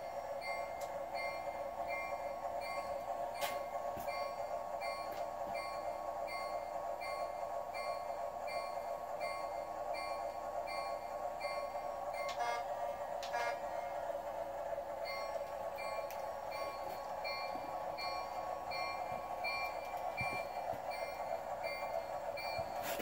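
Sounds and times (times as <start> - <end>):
locomotive bell ringing: 0.0 - 23.0.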